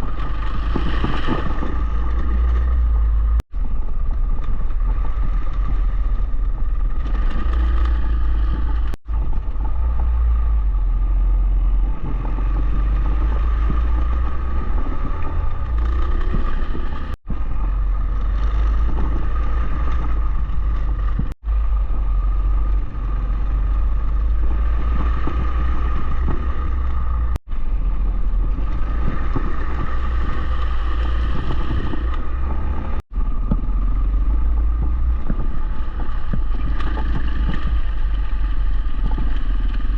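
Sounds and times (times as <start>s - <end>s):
motorcycle engine drone: 0.0s - 39.9s
wind rumble on microphone: 0.0s - 39.9s.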